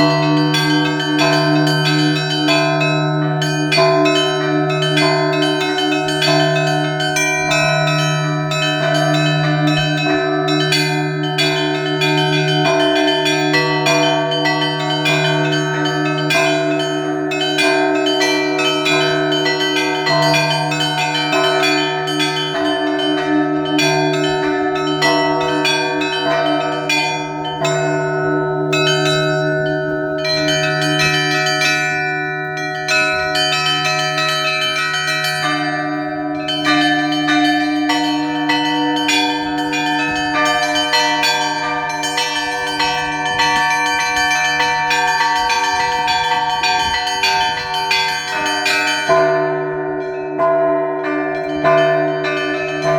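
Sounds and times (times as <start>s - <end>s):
large bell deep hum: 0.0s - 52.9s
small bells ringing fast: 0.0s - 52.9s.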